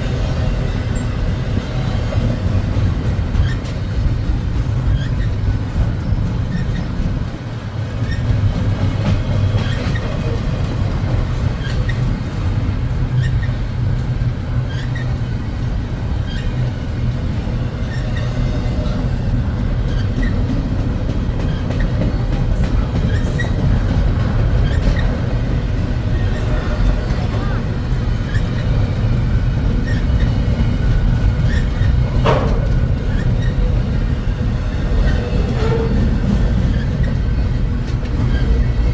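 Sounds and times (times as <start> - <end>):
freight train rumbling past: 0.0 - 38.9
wheels clicking over rail joints: 0.1 - 38.9.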